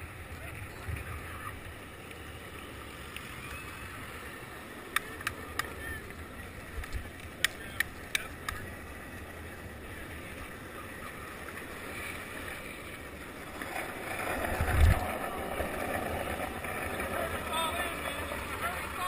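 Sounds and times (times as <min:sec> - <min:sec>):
longboard wheels rumbling on asphalt: 0:00.0 - 0:19.0.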